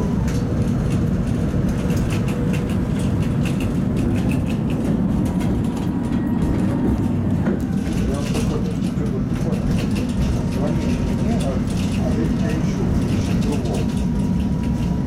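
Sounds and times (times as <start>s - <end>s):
tram wheels rumbling on track: 0.0s - 15.0s.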